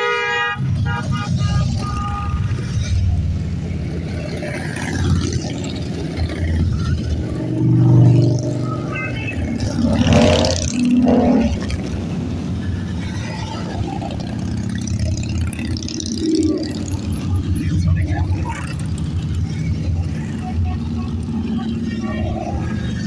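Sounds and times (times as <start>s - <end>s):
motorcycle engines rumbling past: 0.6s - 23.0s.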